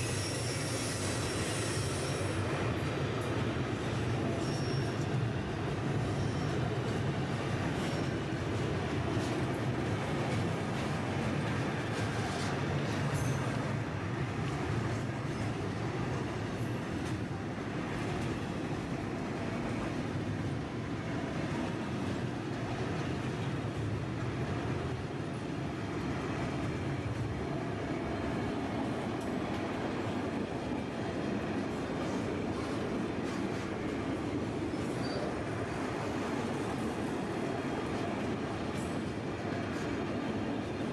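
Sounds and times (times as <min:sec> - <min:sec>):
freight train rumbling on rails: 0:00.0 - 0:40.9.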